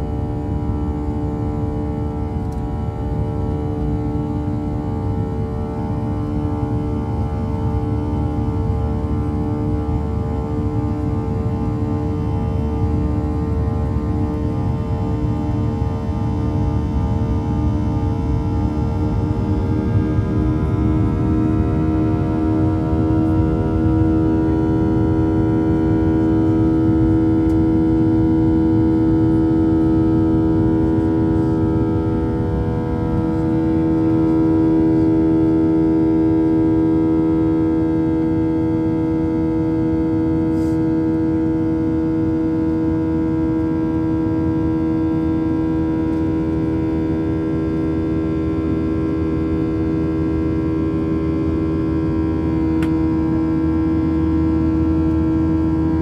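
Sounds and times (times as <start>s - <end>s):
jet engines droning: 0.0s - 56.0s.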